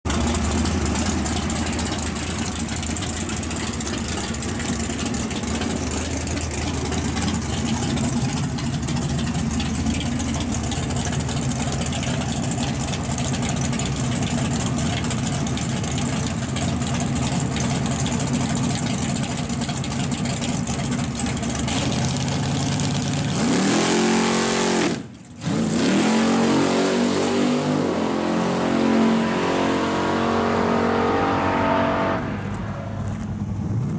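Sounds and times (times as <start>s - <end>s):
drag race car engine: 0.0s - 33.9s.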